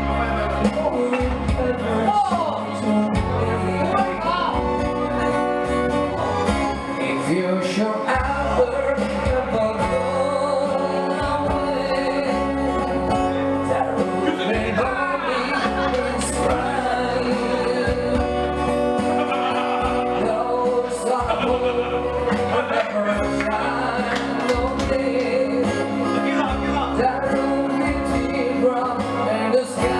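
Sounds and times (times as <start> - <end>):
man singing into a microphone: 0.0 - 4.8, 6.2 - 29.9
acoustic guitar: 0.0 - 29.9.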